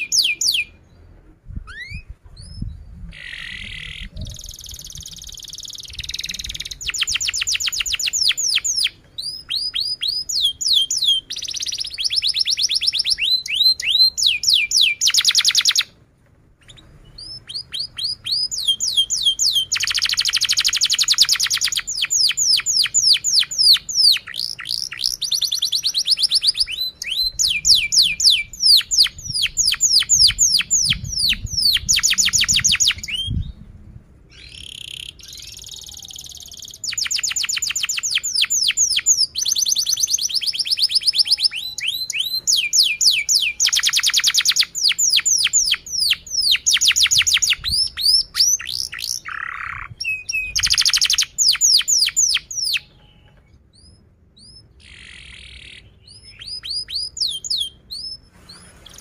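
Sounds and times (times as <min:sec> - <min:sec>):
canary singing rapid trills: 0:00.0 - 0:00.8, 0:01.7 - 0:15.9, 0:16.6 - 0:33.4, 0:34.4 - 0:59.0.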